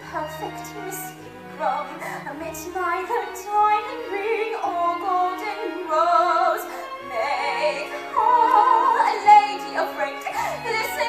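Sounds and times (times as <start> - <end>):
instrumental accompaniment: 0.0 - 11.0
woman singing operatically: 0.0 - 11.0.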